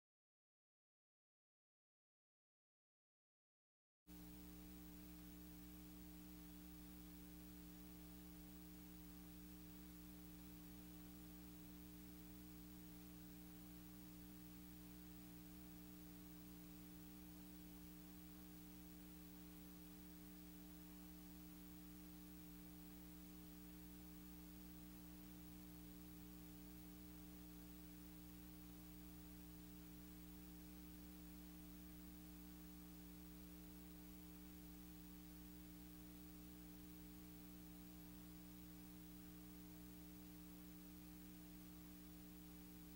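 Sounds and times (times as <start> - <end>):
faint electrical hum with hiss: 4.1 - 42.9.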